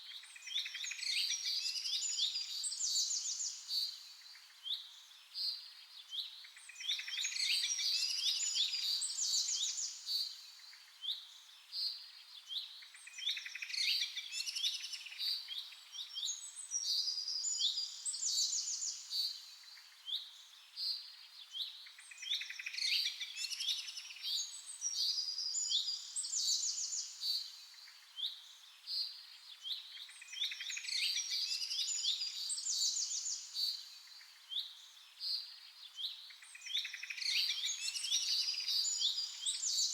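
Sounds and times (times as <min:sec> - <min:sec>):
songbirds chirping and trilling: 0:00.1 - 0:39.9.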